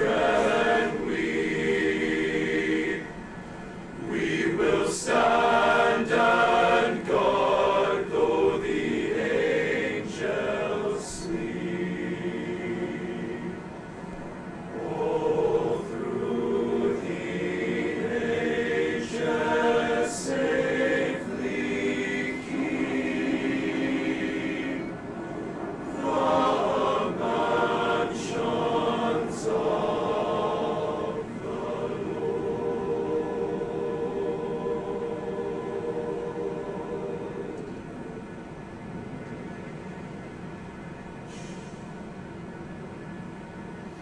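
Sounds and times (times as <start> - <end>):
male choir singing in harmony: 0.0 - 38.6.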